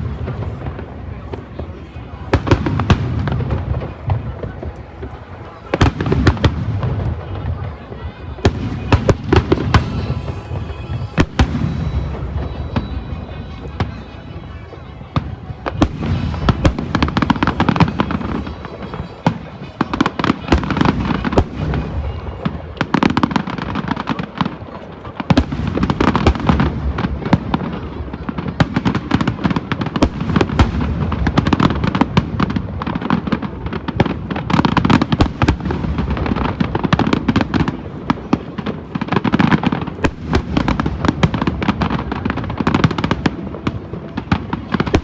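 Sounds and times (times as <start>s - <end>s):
fireworks bursting and crackling: 0.0s - 45.0s.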